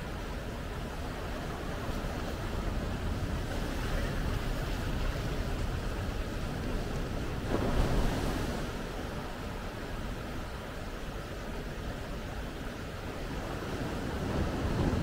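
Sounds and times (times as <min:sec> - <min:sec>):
small waves breaking on beach: 0:00.0 - 0:15.0.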